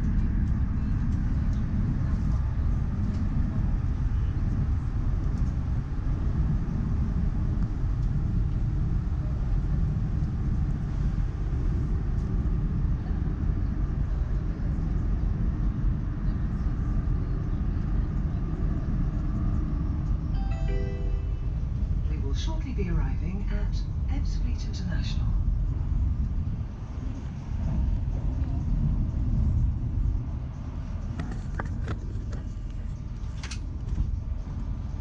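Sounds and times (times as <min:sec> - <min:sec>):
train rumbling heard inside carriage: 0:00.0 - 0:35.0.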